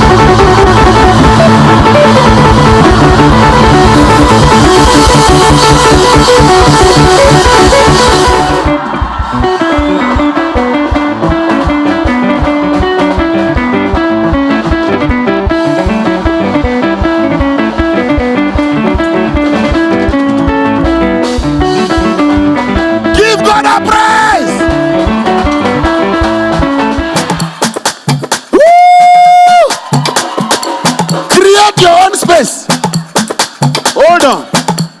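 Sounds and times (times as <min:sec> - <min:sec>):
live band music with guitar: 0:00.0 - 0:31.8.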